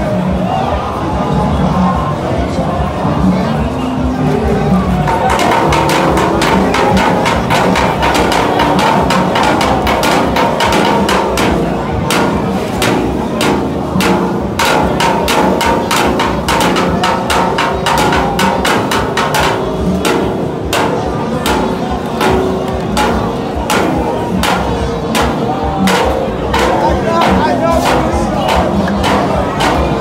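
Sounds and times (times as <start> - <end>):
steady held tones: 4.9 - 30.0
percussion knocks and strikes: 5.0 - 30.0.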